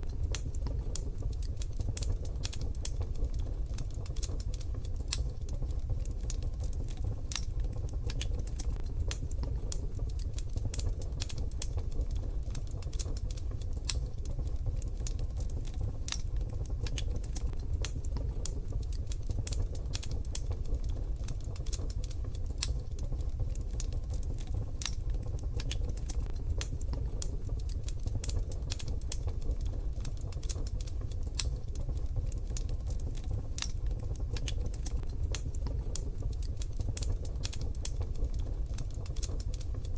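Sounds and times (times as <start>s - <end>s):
low fire rumble: 0.0s - 39.9s
wood stove fire crackling: 0.0s - 39.9s.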